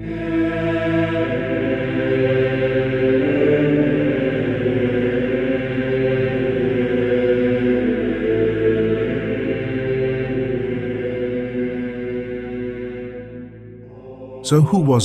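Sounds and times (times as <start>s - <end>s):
voices chanting sustained notes: 0.0s - 15.0s.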